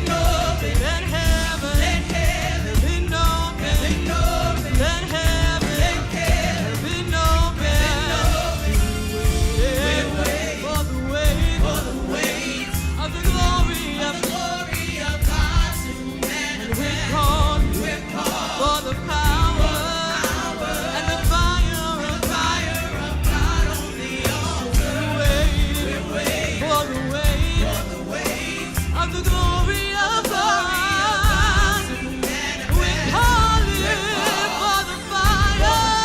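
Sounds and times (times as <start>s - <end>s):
bass: 0.0s - 36.0s
drums: 0.0s - 36.0s
lead and group singing: 0.0s - 36.0s.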